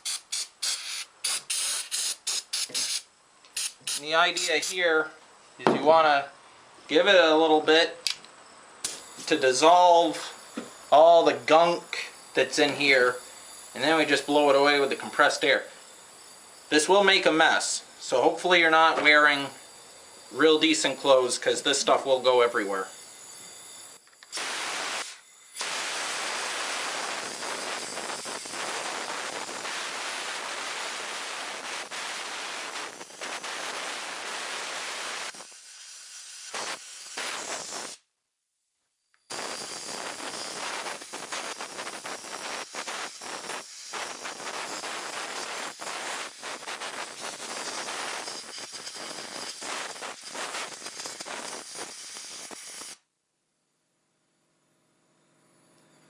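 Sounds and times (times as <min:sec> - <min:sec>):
compressed air hissing: 0:00.0 - 0:04.9, 0:08.8 - 0:38.1, 0:39.3 - 0:53.0.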